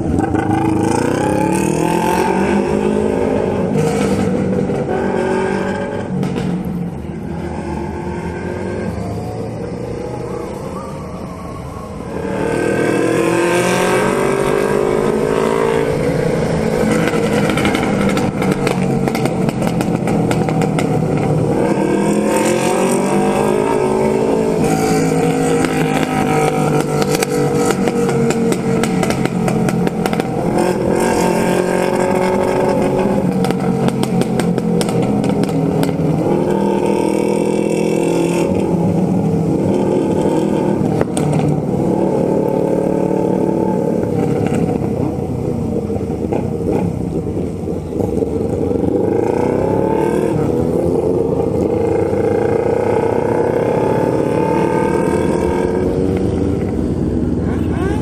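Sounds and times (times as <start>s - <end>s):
motorcycle engine revving: 0.0s - 10.8s, 11.9s - 58.0s.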